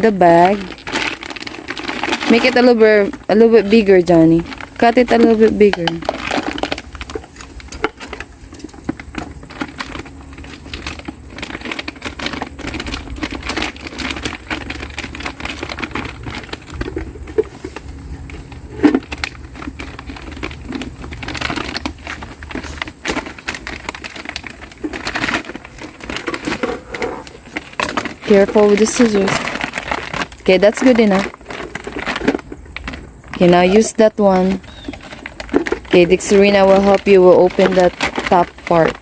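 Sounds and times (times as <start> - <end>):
plastic bag rustling: 0.0 - 39.0.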